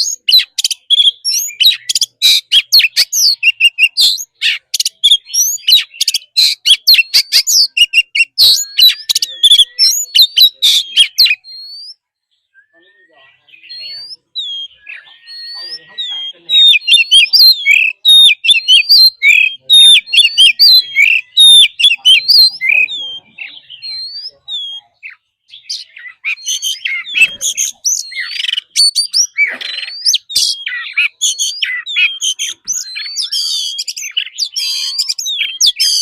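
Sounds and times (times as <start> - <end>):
magpie-robin singing: 0.0 - 36.0.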